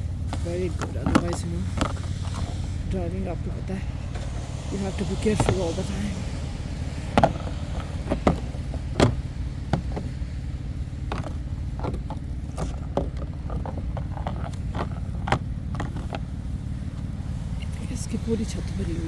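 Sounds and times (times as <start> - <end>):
snow scraped off a car: 0.0 - 19.0
steady low rumble: 0.0 - 19.0.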